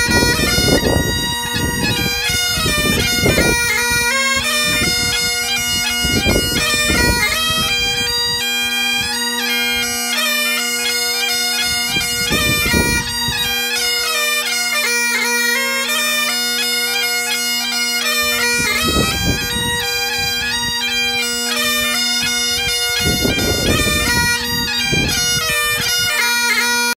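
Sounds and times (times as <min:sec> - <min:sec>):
bagpipes playing a tune: 0:00.0 - 0:27.0.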